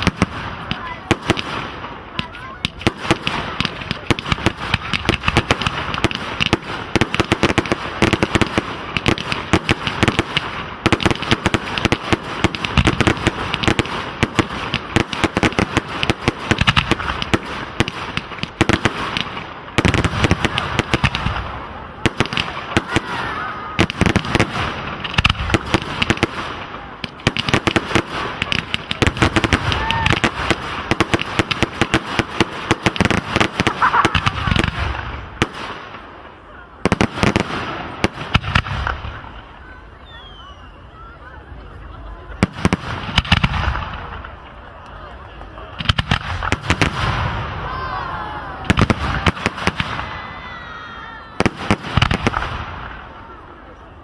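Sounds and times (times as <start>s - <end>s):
fireworks whistling: 0.0s - 41.3s, 45.8s - 53.4s
fireworks bangs and crackles: 0.0s - 54.0s.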